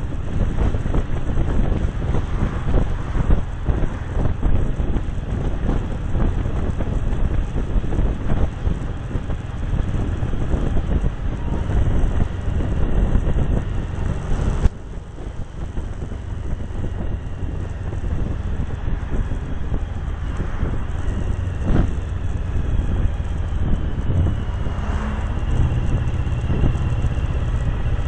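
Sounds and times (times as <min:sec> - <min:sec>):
motorcycle running: 0:00.0 - 0:28.0
wind buffeting microphone: 0:00.0 - 0:28.0.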